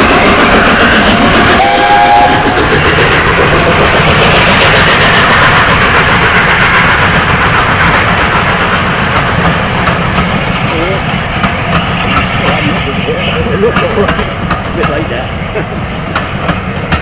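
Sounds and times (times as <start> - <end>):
steam train rushing past: 0.0 - 17.0.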